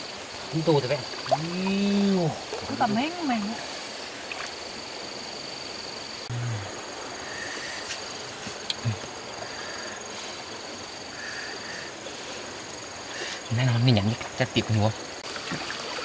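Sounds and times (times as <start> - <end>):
flowing stream water: 0.0 - 16.0
insects trilling: 0.0 - 16.0.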